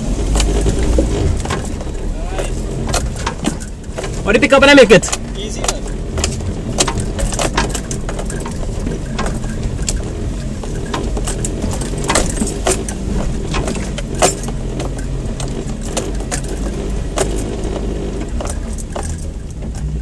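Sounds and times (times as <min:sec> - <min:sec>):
off-road engine at low revs: 0:00.0 - 0:20.0
vehicle knocks and rattles: 0:00.0 - 0:20.0.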